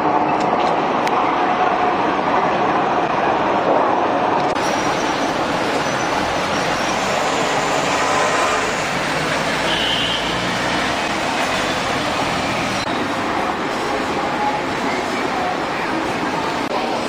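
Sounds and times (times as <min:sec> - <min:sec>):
city street traffic rumble: 0:00.0 - 0:17.0
vehicles passing: 0:00.0 - 0:17.0.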